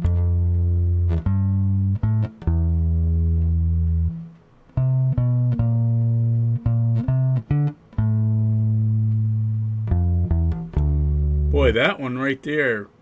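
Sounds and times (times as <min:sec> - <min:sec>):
electric bass guitar notes: 0:00.0 - 0:12.8.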